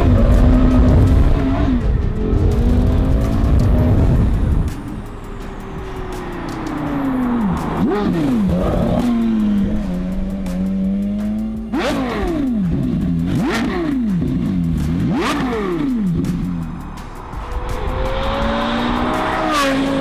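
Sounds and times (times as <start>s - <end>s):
car engine revving hard: 0.0s - 20.0s.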